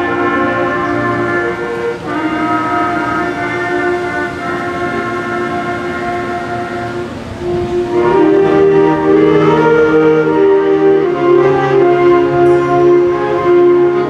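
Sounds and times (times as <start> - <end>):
concert band playing held chords: 0.0 - 14.0.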